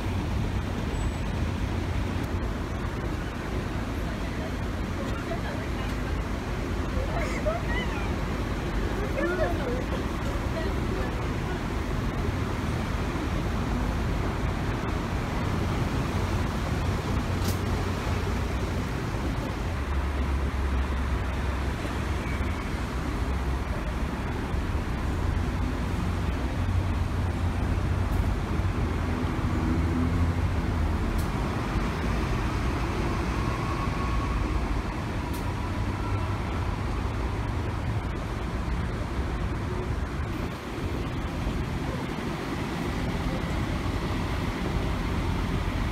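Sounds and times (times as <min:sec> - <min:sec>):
bus driving by: 0:00.0 - 0:45.9
bus engine rumble: 0:00.0 - 0:45.9
traffic noise: 0:00.0 - 0:45.9.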